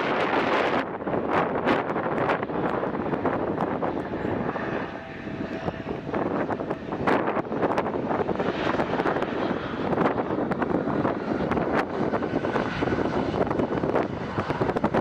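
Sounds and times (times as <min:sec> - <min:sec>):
airplane engine noise: 0:00.0 - 0:15.0.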